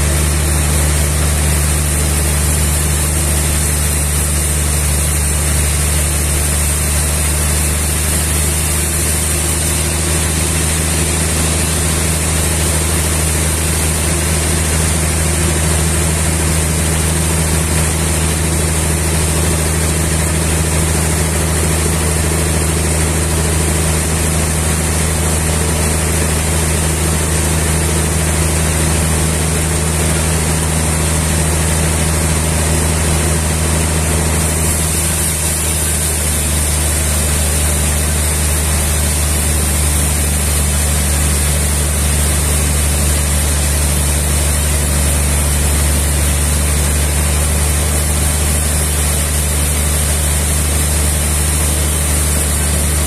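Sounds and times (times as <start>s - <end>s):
engine running with low hum: 0.0s - 53.0s.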